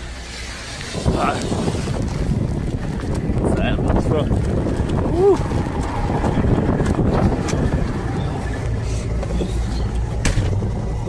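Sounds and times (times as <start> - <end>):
truck engine idling: 0.0 - 11.0
wind buffeting microphone: 0.0 - 11.0.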